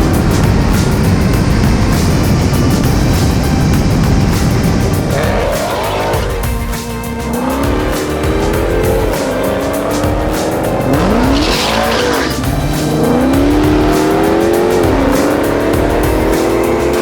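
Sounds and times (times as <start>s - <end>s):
background music with steady beat: 0.0s - 17.0s
drag car engine revving: 0.0s - 17.0s.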